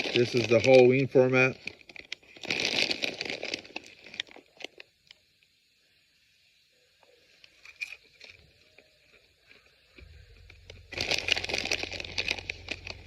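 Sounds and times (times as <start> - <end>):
plastic snack bag crinkling: 0.0 - 5.2, 7.4 - 13.0.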